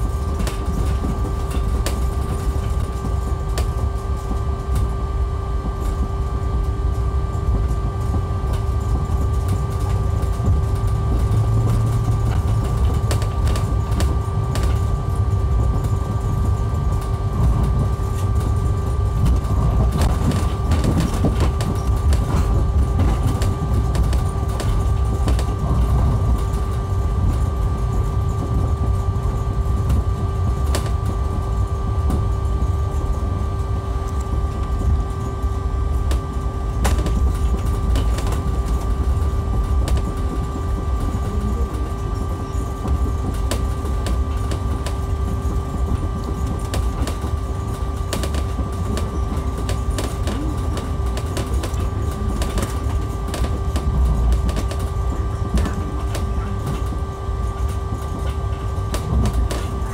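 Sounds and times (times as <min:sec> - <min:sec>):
rumble of rubber tyres: 0:00.0 - 0:59.9
steady whining tones: 0:00.0 - 0:59.9.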